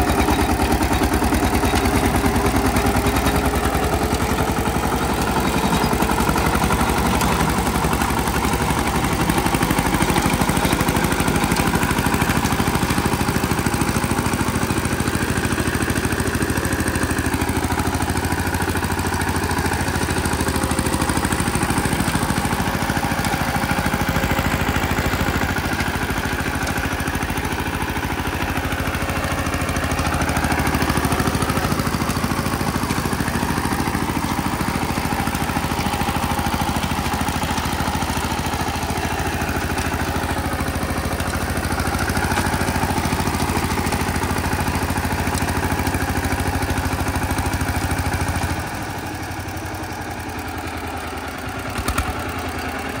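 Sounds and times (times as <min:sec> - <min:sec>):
diesel engine chugging: 0:00.0 - 0:53.0.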